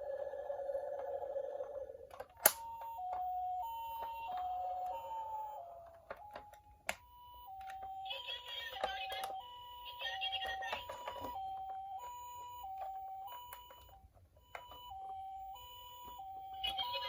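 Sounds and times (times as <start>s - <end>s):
toy two-tone siren: 0.0s - 17.0s.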